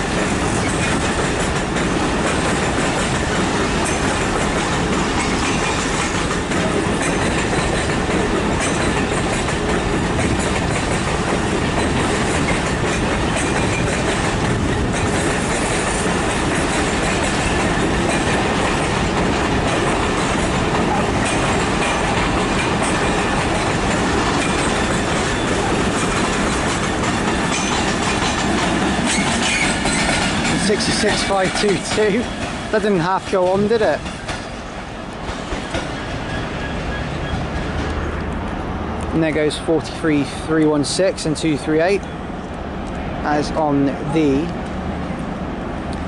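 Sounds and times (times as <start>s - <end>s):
freight train rolling past: 0.0s - 46.0s.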